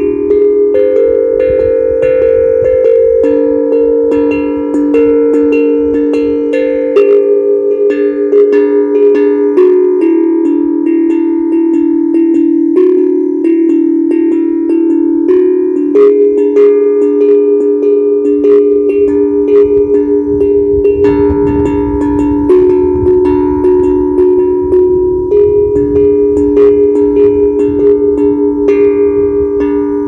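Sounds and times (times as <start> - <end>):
steel tongue drum melody: 0.0 - 30.0.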